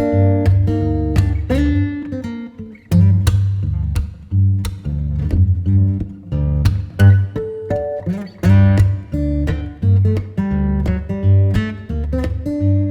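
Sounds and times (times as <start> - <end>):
bass line: 0.0 - 2.1, 2.9 - 12.9
acoustic guitar strumming: 0.0 - 12.9.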